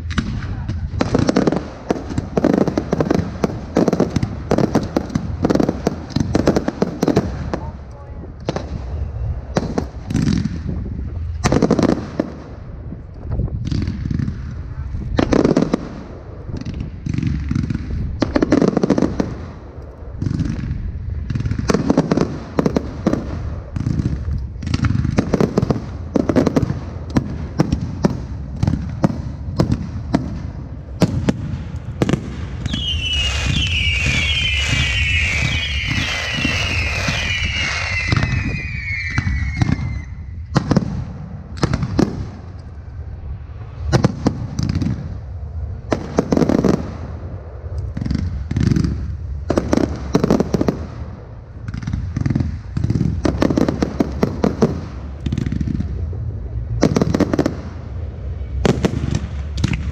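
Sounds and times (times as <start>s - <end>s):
fireworks booming: 0.0s - 59.9s
whistling fireworks: 0.0s - 59.9s.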